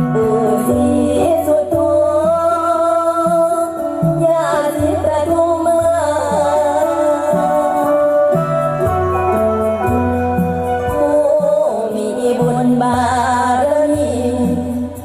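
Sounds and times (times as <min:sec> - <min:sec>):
woman singing wavering melody: 0:00.0 - 0:09.5, 0:10.4 - 0:15.0
instrumental accompaniment: 0:00.0 - 0:15.0.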